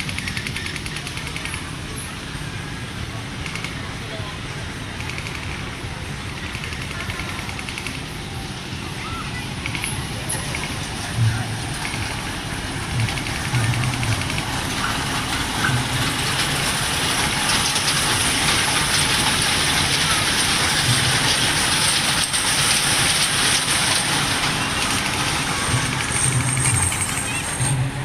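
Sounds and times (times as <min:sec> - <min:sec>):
amusement train rumbling: 0:00.0 - 0:28.0.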